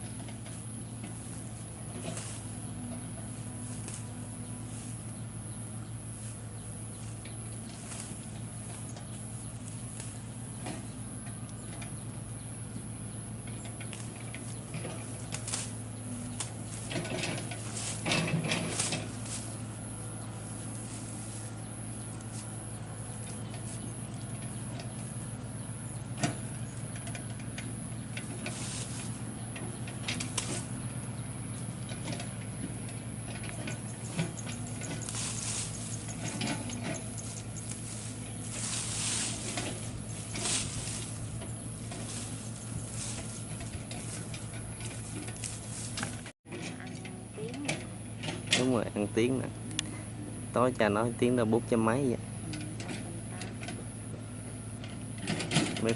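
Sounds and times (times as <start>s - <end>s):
machine engine running: 0.0s - 55.9s.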